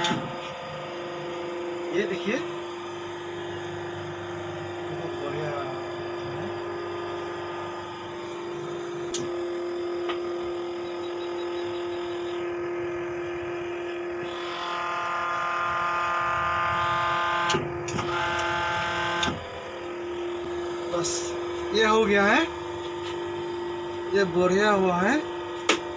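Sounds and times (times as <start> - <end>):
machine whining under load: 0.0 - 25.9
motor and pump humming: 0.0 - 25.9.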